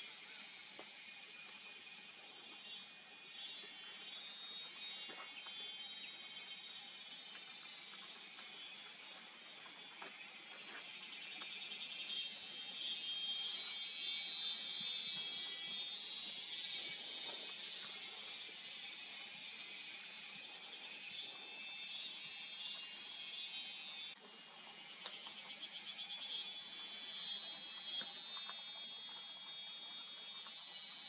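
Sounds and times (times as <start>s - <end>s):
insect trilling: 0.0s - 31.0s.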